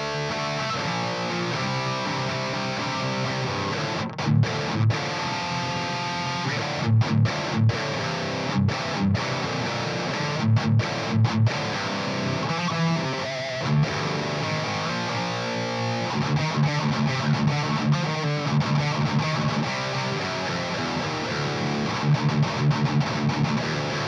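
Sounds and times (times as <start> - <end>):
distorted electric guitar riff: 0.0 - 24.0.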